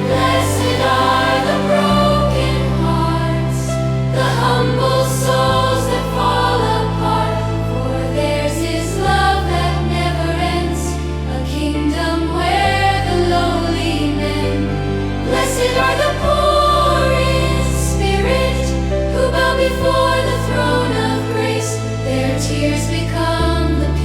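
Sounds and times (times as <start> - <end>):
held low notes: 0.0 - 24.0
piano: 0.0 - 24.0
wordless choir voices: 0.0 - 24.0.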